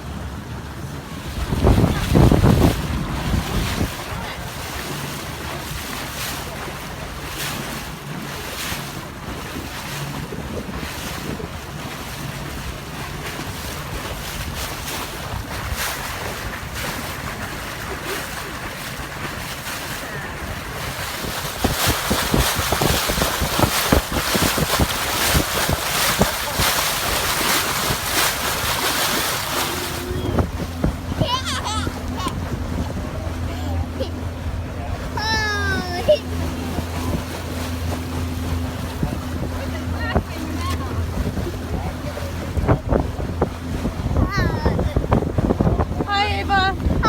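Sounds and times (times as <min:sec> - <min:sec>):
rushing water: 0:00.0 - 0:47.0
wind buffeting microphone: 0:00.0 - 0:47.0.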